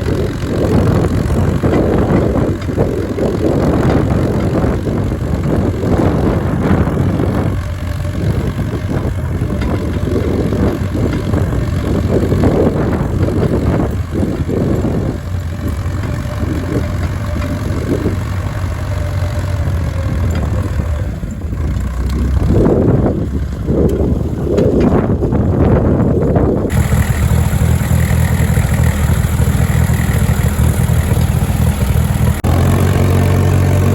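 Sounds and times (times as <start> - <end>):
tractor engine running under load: 0.0 - 33.9.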